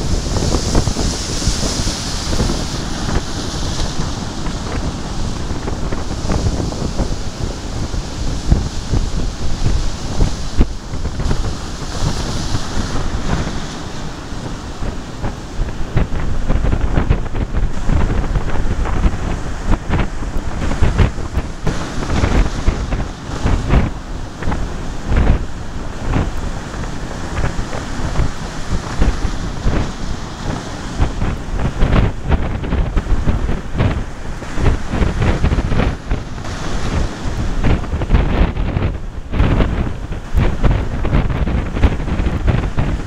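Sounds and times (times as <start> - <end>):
gale buffeting the microphone: 0.0 - 43.0
rough surf breaking: 0.0 - 43.0.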